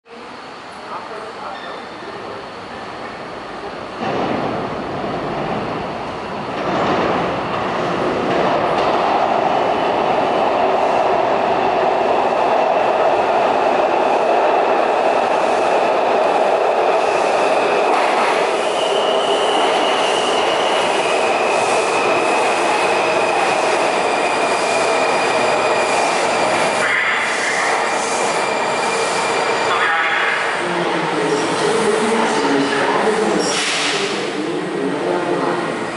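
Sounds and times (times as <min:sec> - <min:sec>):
train wheels rumbling on rails: 0:02.6 - 0:35.9.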